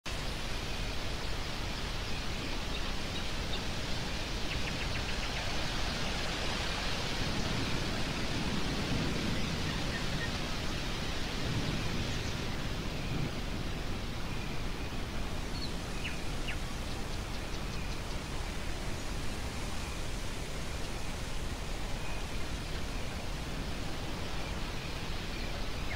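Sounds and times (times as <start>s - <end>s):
stormy wind blowing: 0.1s - 25.9s.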